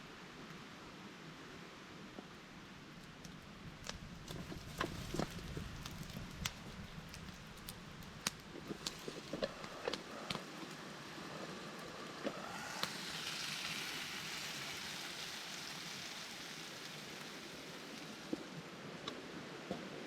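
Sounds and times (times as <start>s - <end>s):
rain falling on a tarp: 2.9s - 20.0s.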